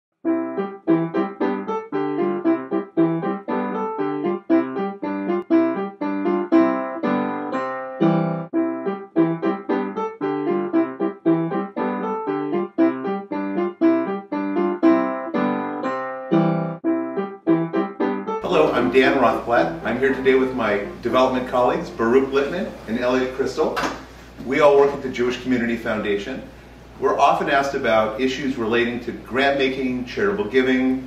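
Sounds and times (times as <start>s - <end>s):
piano-like keyboard chords: 0.2s - 31.0s.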